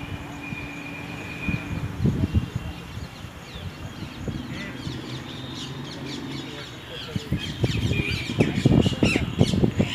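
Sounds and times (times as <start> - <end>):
birds calling: 0.0 - 9.9.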